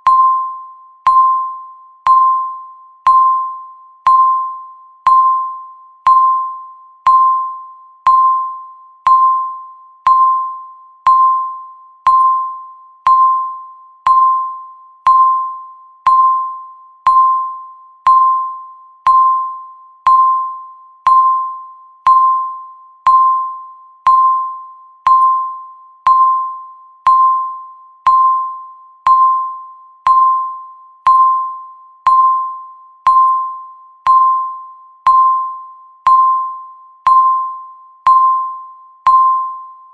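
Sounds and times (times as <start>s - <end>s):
bell-like timer ticks: 0.0s - 39.9s.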